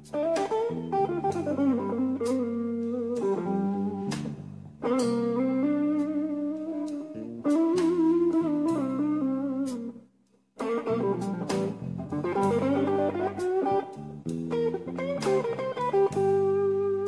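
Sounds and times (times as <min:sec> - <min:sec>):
bass and drums: 0:00.0 - 0:10.0, 0:10.6 - 0:17.0
electric guitar lead with bent notes: 0:00.0 - 0:10.0, 0:10.6 - 0:17.0.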